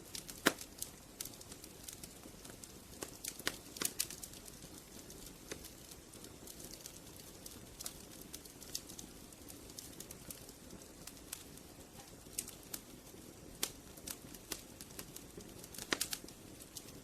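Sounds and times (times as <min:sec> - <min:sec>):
low steady hiss: 0:00.0 - 0:17.0
wood fire crackling: 0:00.0 - 0:17.0.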